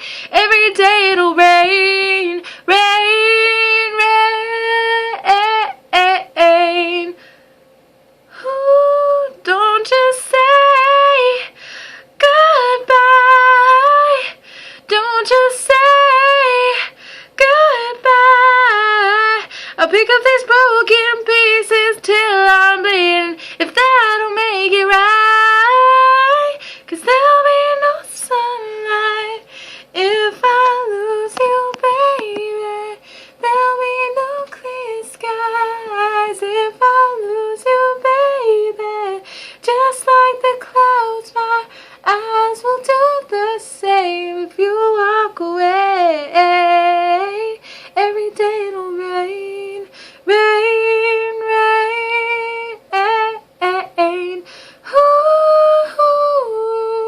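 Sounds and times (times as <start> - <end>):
woman singing unaccompanied: 0.0 - 7.2, 8.3 - 11.6, 12.2 - 57.0.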